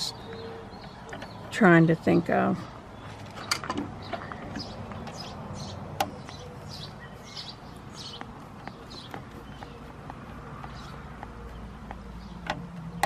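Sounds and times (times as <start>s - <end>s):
small bird chirping: 0.0s - 2.2s, 2.9s - 13.0s.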